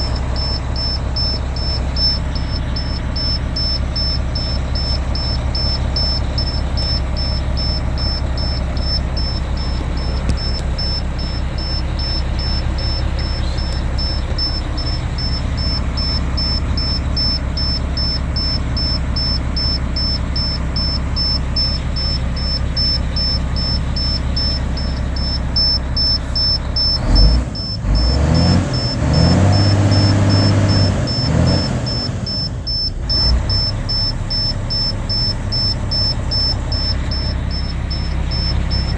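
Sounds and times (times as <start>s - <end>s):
diesel truck engine idling and revving: 0.0s - 38.9s
high-pitched beep: 0.0s - 38.9s.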